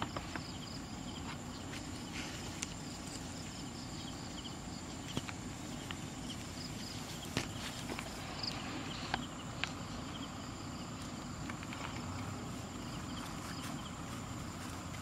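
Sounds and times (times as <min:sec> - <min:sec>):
background noise: 0:00.0 - 0:15.0.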